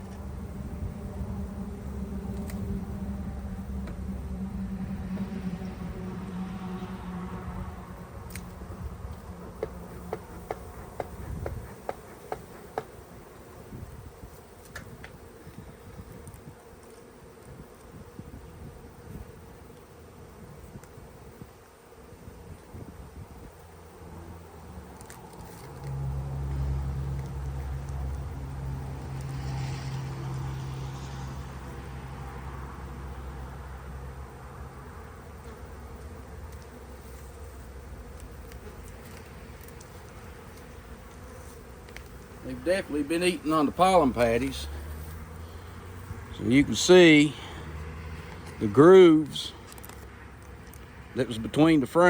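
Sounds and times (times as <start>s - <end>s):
bees buzzing: 0.0s - 52.0s.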